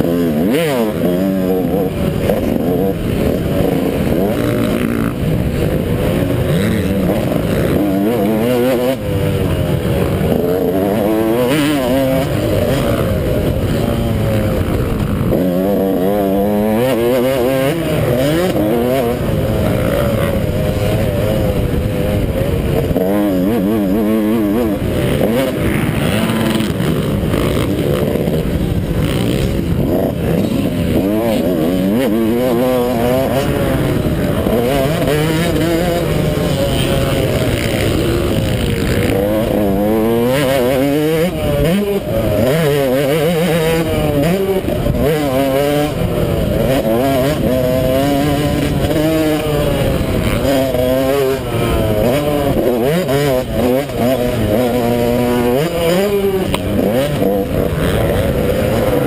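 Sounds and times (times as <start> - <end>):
constant rushing noise: 0.0 - 59.0
dirt bike engine revving: 0.0 - 59.0.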